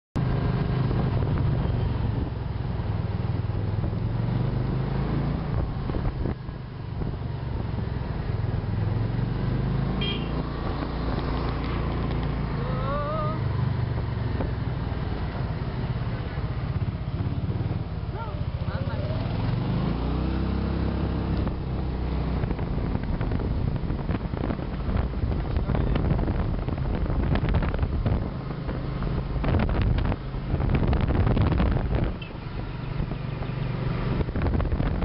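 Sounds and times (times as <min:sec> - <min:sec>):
street traffic: 0:00.2 - 0:35.0
vehicle engine drone: 0:00.2 - 0:35.0.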